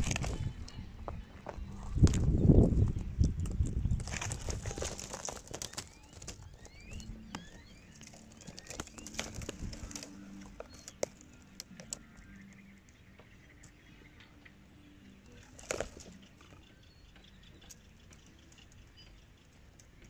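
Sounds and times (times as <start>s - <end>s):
bird chirps: 0.0s - 20.0s.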